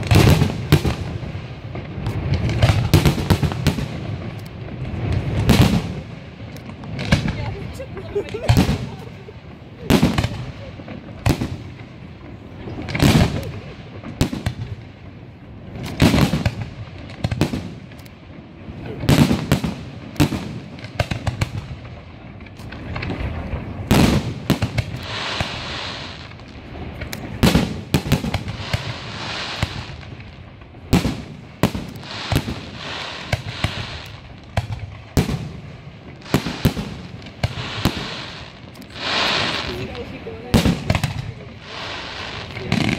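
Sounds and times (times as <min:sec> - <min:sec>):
crackling firework effects: 0:00.0 - 0:42.9
firework shells booming: 0:00.0 - 0:42.9.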